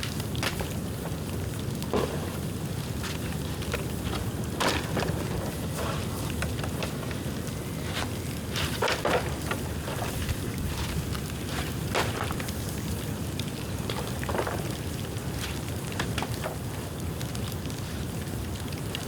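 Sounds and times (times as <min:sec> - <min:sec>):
bamboo crackling and popping: 0:00.0 - 0:19.0
low rumble of fire: 0:00.0 - 0:19.0.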